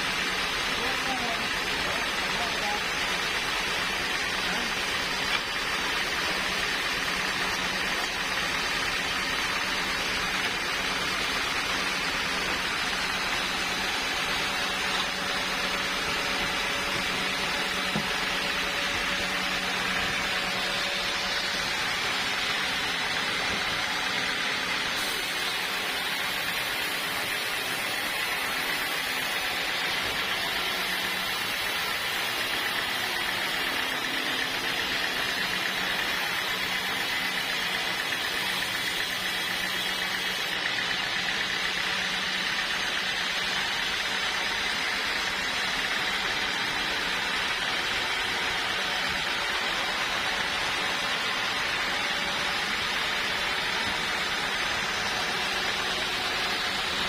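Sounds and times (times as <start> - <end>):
sawmill saw whirring: 0.0 - 57.0.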